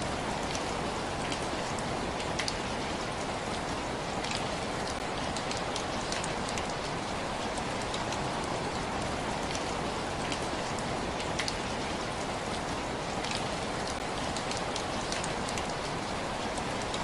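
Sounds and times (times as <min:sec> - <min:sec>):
raindrops ticking on a surface: 0:00.0 - 0:17.0
steady rain hiss: 0:00.0 - 0:17.0.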